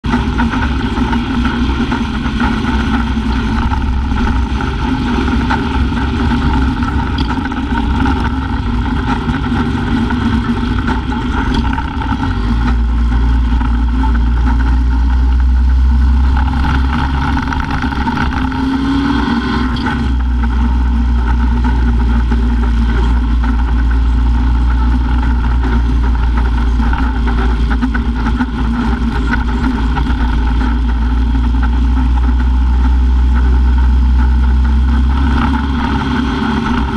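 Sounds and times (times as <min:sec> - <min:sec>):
car engine running: 0:00.0 - 0:36.9
road noise: 0:00.0 - 0:36.9
wind rumble on microphone: 0:00.0 - 0:36.9.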